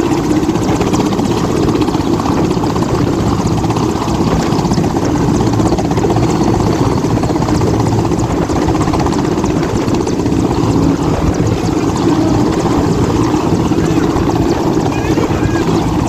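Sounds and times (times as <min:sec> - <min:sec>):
helicopter rotor chop: 0:00.0 - 0:16.0.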